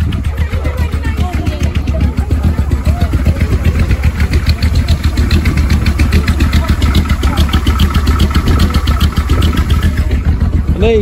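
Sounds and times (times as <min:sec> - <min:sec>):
loud engine idling: 0:00.0 - 0:11.0.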